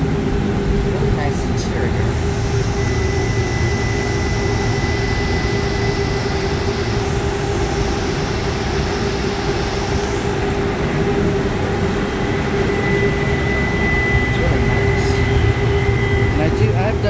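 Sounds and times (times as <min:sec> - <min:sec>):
faint high whine: 0:00.0 - 0:17.0
low hum: 0:00.0 - 0:17.0
streetcar rumble: 0:00.0 - 0:17.0.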